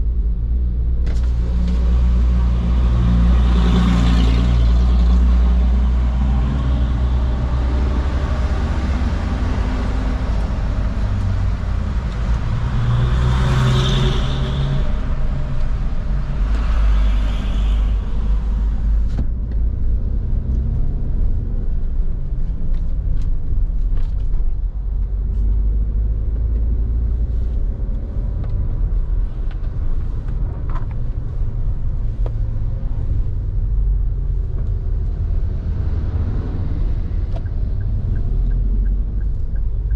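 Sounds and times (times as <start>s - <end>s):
low rumble of engine and road: 0.0s - 39.9s.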